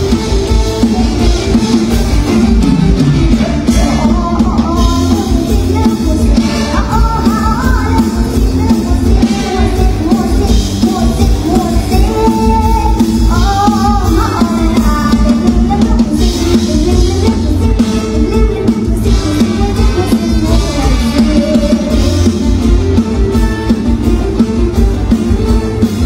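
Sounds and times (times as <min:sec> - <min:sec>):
drum kit beat: 0:00.0 - 0:26.0
heavy bass: 0:00.0 - 0:26.0
girl singing into microphone: 0:03.6 - 0:26.0.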